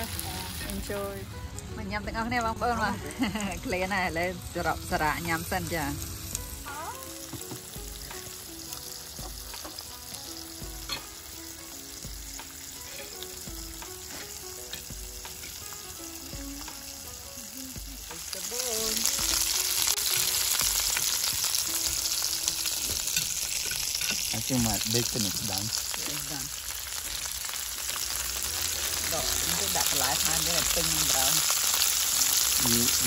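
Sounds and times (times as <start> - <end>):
faint background music: 0.0 - 33.0
meat sizzling in grill pan: 0.0 - 33.0.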